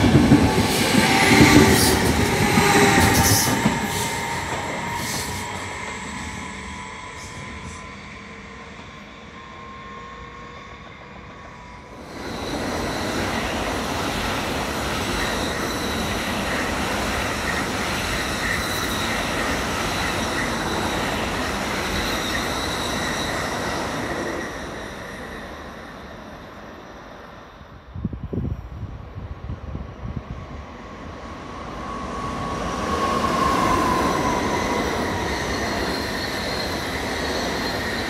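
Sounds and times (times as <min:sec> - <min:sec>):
train wheels rushing on rails: 0:00.0 - 0:38.0.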